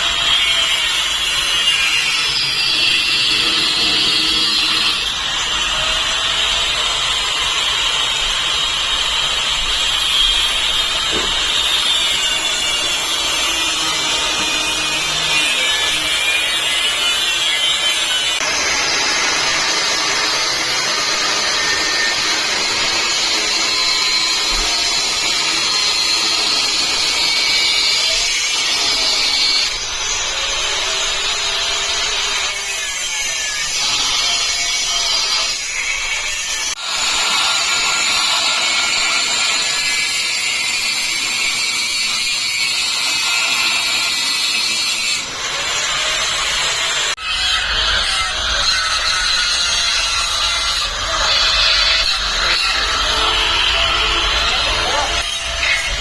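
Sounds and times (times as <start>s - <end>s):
power tool whining: 0.0s - 56.0s.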